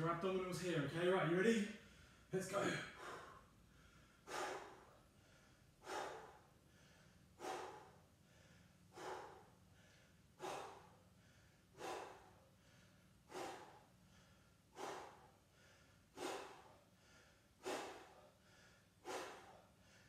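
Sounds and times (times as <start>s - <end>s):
man breathing out hard: 1.8s - 20.0s.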